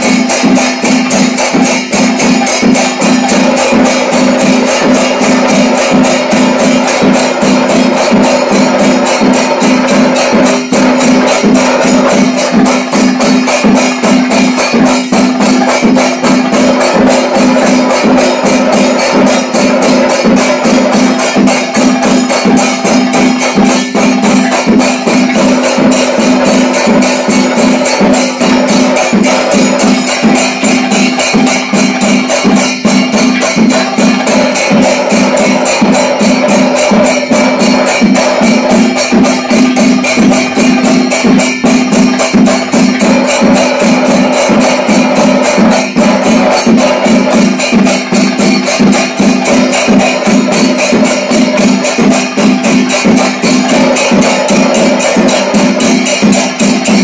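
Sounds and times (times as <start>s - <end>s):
rhythmic percussion music: 0.0s - 57.0s.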